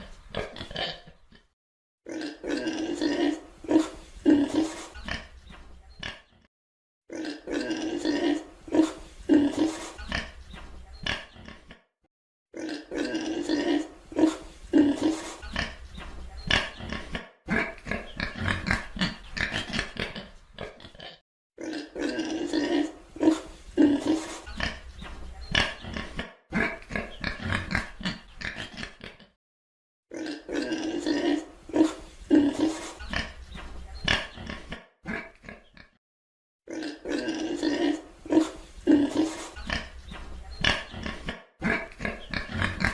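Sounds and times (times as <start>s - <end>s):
pig grunting: 0.0s - 1.5s, 2.1s - 6.4s, 7.1s - 11.8s, 12.6s - 29.4s, 30.1s - 36.0s, 36.7s - 42.9s.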